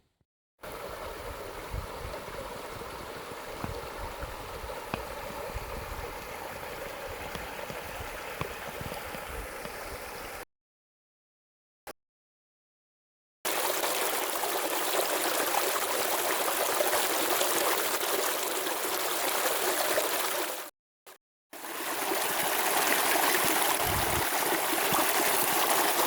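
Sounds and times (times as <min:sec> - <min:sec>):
running water rushing: 0:00.6 - 0:10.4, 0:13.5 - 0:20.7, 0:21.6 - 0:26.0.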